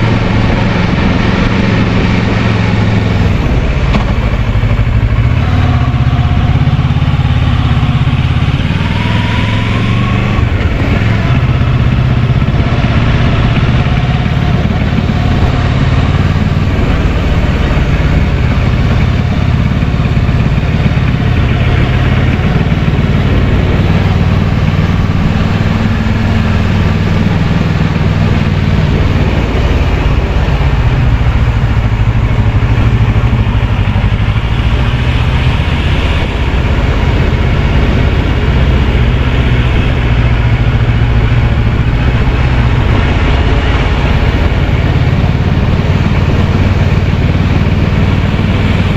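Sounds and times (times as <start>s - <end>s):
heavy wind noise: 0.0s - 48.9s
motorcycle engine running: 0.0s - 48.9s
road noise: 0.0s - 48.9s.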